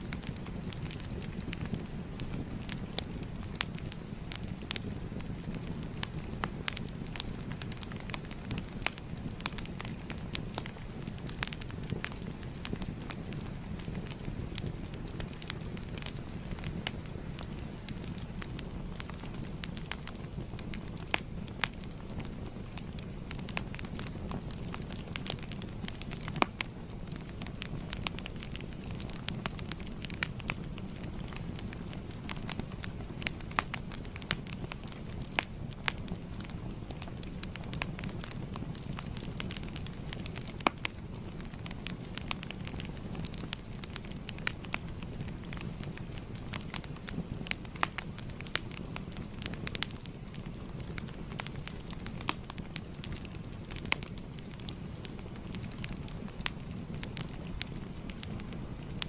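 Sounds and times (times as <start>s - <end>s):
fire crackling and popping: 0.0s - 59.0s
flames rushing: 0.1s - 59.0s.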